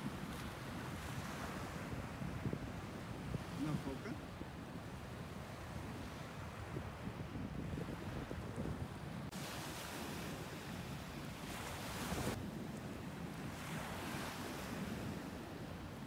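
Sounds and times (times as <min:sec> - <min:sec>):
surf breaking on a beach: 0:00.0 - 0:16.0
wind rumble on microphone: 0:00.0 - 0:16.0.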